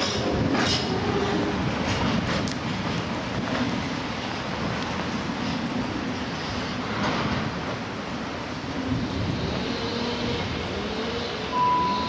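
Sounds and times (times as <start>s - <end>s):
train running past: 0.0s - 12.0s.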